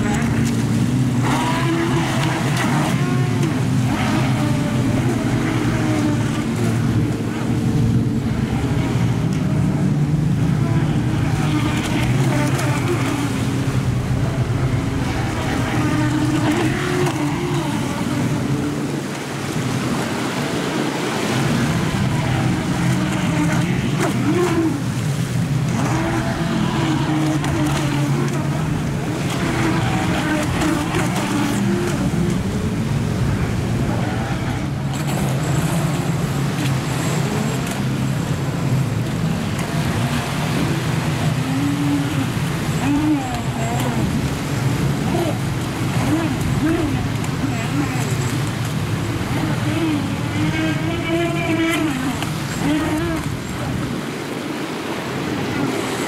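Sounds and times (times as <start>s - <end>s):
electric toy speedboat running: 0.0s - 18.9s, 21.2s - 53.8s
water and wind rushing: 0.0s - 56.0s
waves breaking: 0.0s - 56.0s.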